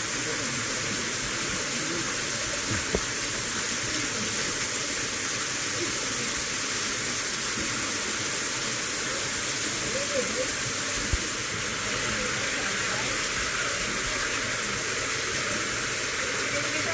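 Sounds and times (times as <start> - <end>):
small waterfall over rocks: 0.0 - 16.9.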